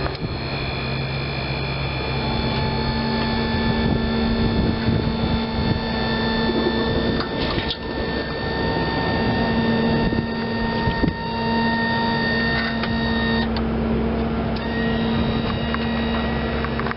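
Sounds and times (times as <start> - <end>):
riding mower engine running: 0.0 - 16.9.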